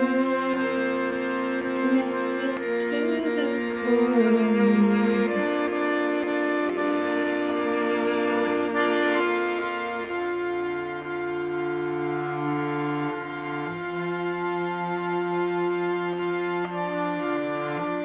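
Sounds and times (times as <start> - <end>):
accordion playing chords: 0.0 - 18.0.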